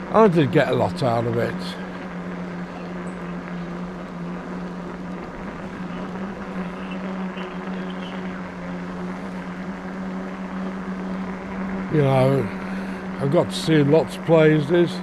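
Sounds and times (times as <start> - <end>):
constant rushing noise: 0.0 - 15.0
electric bike motor humming: 0.0 - 15.0.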